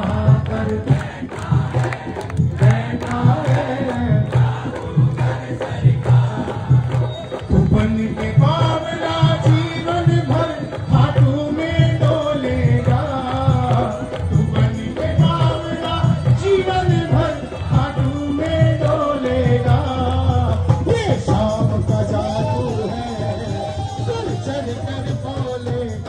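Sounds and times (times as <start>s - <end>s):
loud amplified music: 0.0s - 26.0s
steady drum beat: 0.0s - 26.0s.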